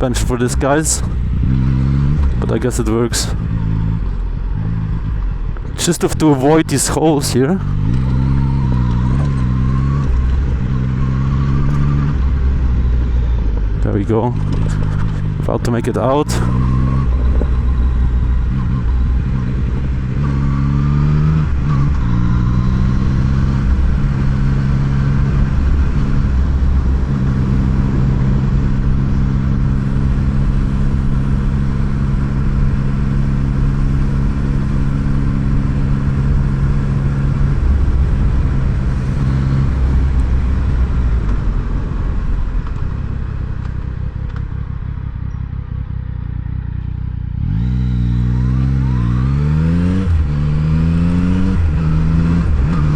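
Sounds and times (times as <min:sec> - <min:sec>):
low rumble: 0:00.0 - 0:52.9
motorcycle engine running: 0:00.0 - 0:52.9.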